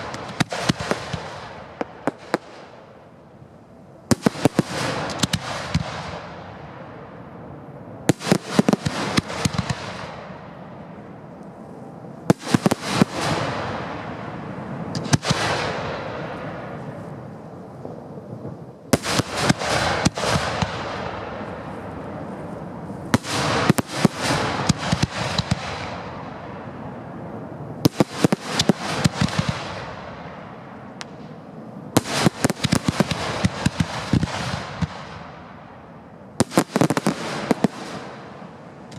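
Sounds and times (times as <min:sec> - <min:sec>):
fireworks bursting with sharp bangs: 0:00.0 - 0:38.9.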